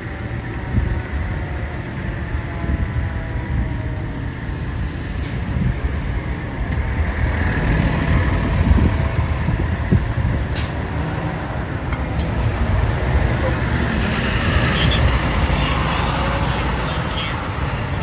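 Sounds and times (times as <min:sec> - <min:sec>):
fire engine rumbling: 0:00.0 - 0:18.0.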